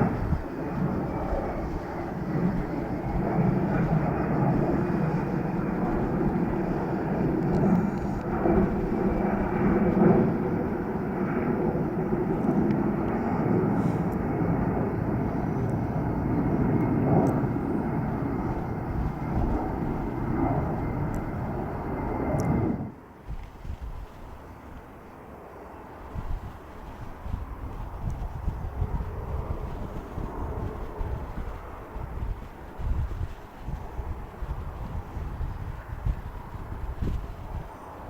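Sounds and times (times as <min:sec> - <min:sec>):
faint high whine: 0:00.0 - 0:38.0
jet engines rumbling: 0:00.0 - 0:38.0.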